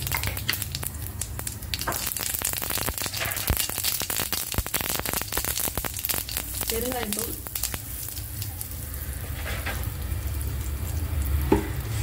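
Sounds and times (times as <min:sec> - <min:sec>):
seeds sizzling and popping in oil: 0:00.0 - 0:12.0.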